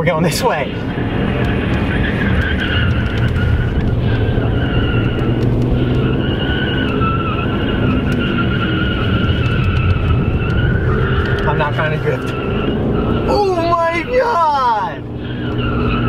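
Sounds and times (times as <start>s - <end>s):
car engine under load: 0.0s - 16.0s
tire squeal: 0.0s - 16.0s.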